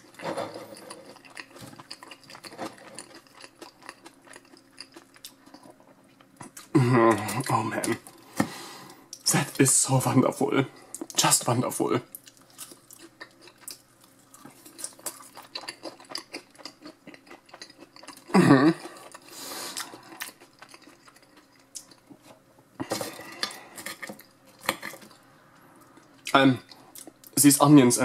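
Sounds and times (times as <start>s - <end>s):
chewing soft fries: 0.0s - 8.2s, 10.8s - 27.4s.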